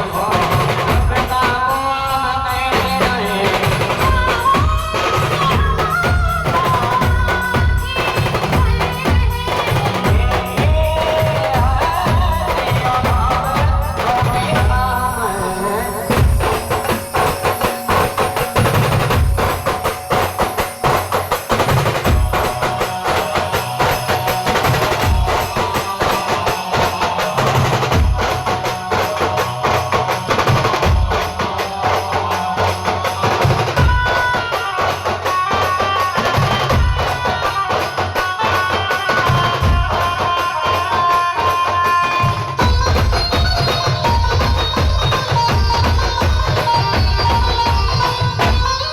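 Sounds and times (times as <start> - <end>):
band music with fast drumming: 0.0 - 48.9.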